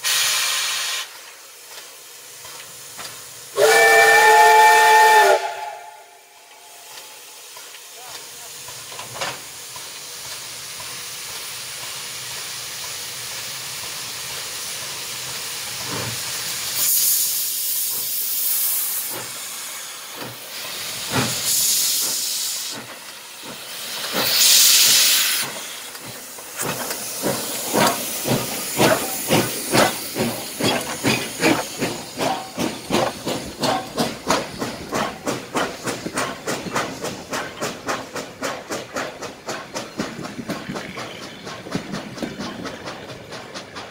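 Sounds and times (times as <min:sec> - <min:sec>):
steam hissing: 0:00.0 - 0:43.9
steam locomotive exhaust chuffs: 0:00.0 - 0:43.9
venting steam blasts: 0:00.0 - 0:43.9.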